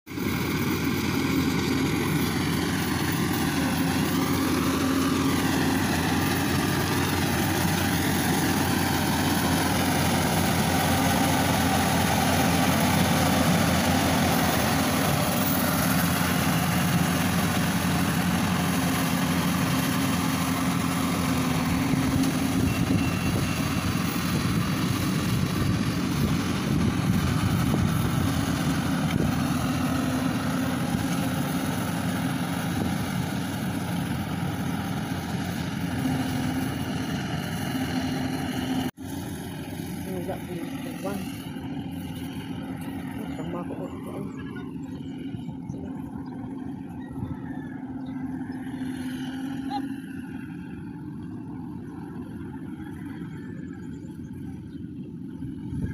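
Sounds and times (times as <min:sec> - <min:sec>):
combine harvester engine running: 0:00.1 - 0:55.9.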